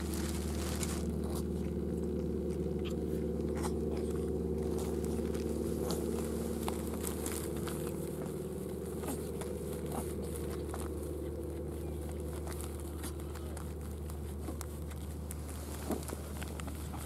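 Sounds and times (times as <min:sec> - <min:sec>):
plastic bag rustling: 0:00.0 - 0:01.6, 0:04.6 - 0:17.0
low mechanical hum: 0:00.0 - 0:17.0.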